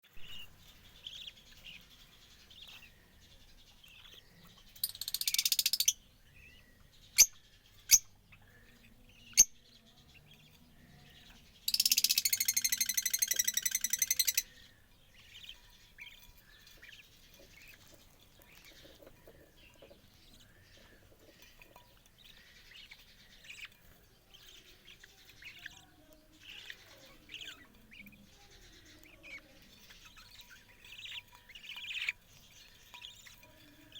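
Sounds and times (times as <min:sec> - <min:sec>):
budgerigars chirping: 0:00.2 - 0:09.6, 0:10.2 - 0:33.9.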